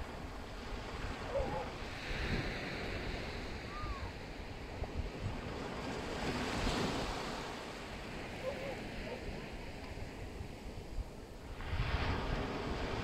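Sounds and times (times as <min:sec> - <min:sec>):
small waves breaking on beach: 0:00.0 - 0:13.0
wind buffeting microphone: 0:00.0 - 0:13.0.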